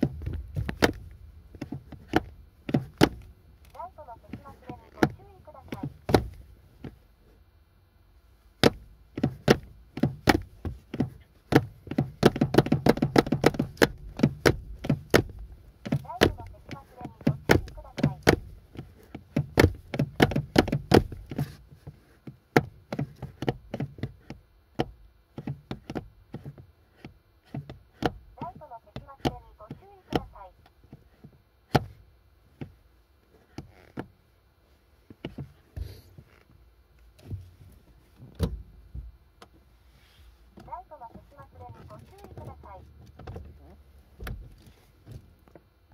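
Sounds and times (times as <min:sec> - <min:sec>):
shoe knocking on car pedal: 0:00.0 - 0:07.0, 0:08.6 - 0:32.8, 0:33.4 - 0:34.1, 0:35.1 - 0:36.5, 0:37.2 - 0:39.2, 0:40.5 - 0:45.6.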